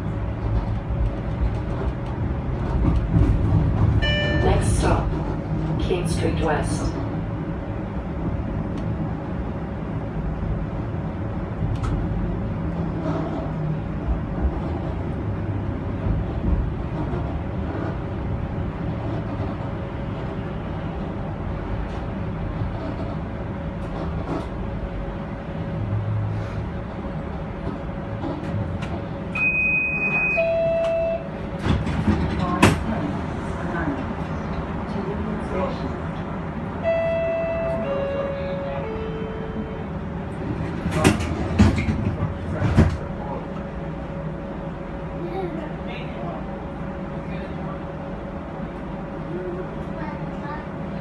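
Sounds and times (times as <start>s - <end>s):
streetcar rumbling on track: 0.0s - 51.0s.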